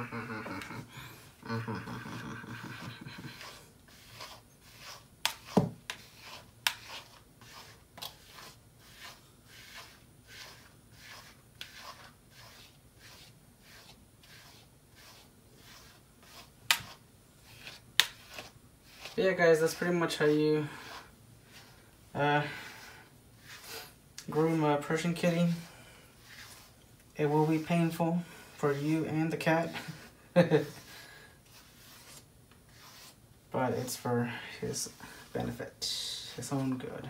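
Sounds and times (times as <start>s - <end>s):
brush stroking through fur: 2.1s - 37.0s.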